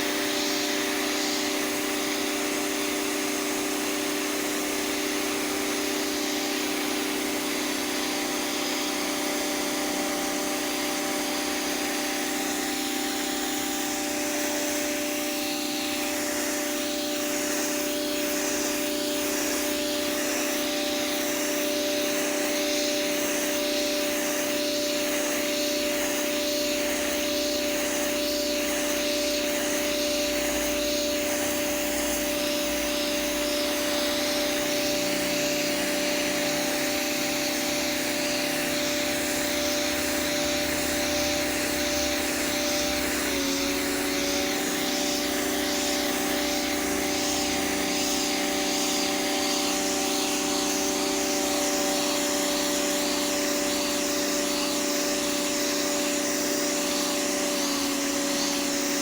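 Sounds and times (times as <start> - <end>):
water jet spraying pavement: 0.0 - 3.4, 12.3 - 56.2
pressure washer motor whining: 0.0 - 59.0.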